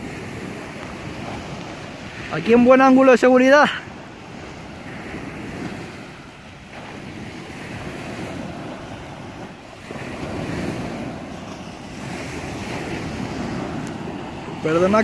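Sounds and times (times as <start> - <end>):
wind on microphone: 0.0 - 2.7, 3.8 - 15.0.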